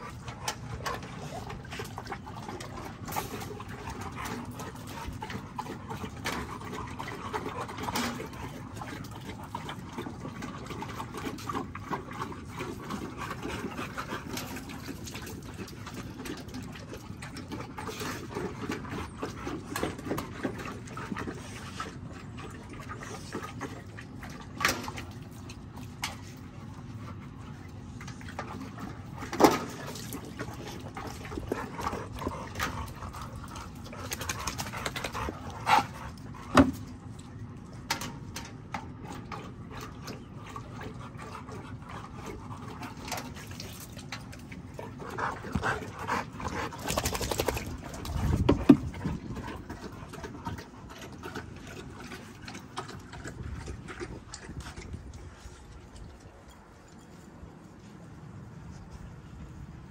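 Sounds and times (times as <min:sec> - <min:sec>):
dogs lapping water from bucket: 0:00.0 - 0:59.9.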